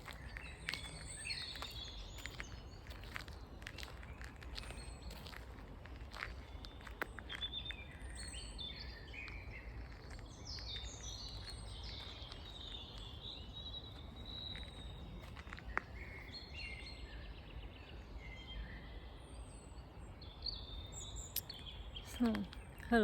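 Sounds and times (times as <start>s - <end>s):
songbirds singing and chirping: 0.0s - 23.0s.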